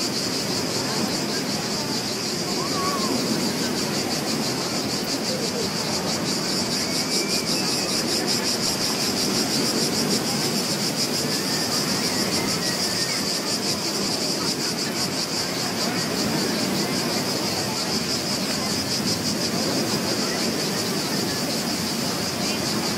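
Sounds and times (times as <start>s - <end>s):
insect chirring: 0.0s - 22.9s
surf washing: 0.0s - 22.9s.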